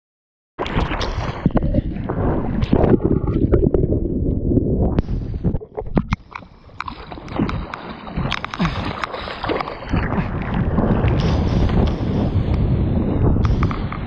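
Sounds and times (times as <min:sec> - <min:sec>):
wind buffeting microphone: 0:00.8 - 0:14.0.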